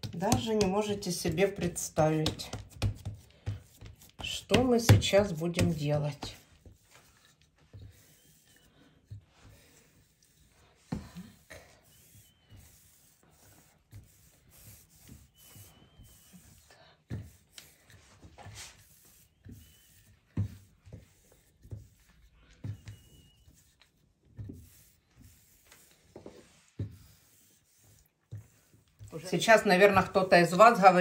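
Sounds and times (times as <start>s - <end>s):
rolling pin rubbing dough: 0.0s - 31.0s.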